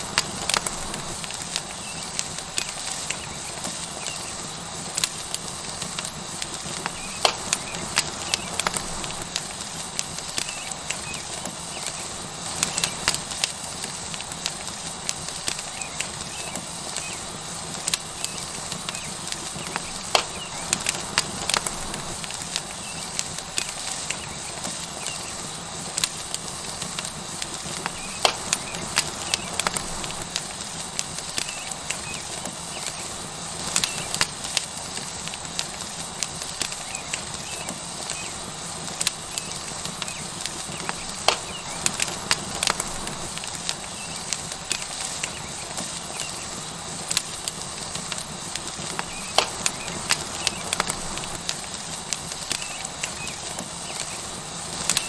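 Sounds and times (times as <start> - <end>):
fire crackling and popping: 0.0 - 55.0
steak sizzling on hot rock: 0.0 - 55.0.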